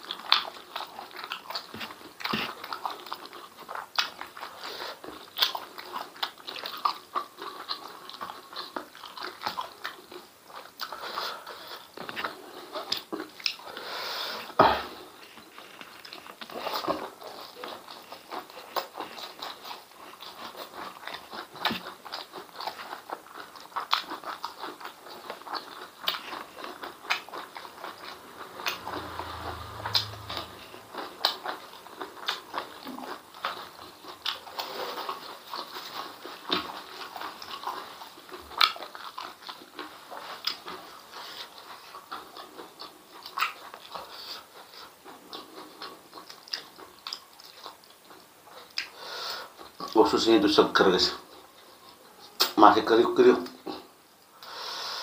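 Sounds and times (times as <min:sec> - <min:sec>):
man chewing and lip smacking: 0:00.0 - 0:50.0, 0:51.2 - 0:52.6.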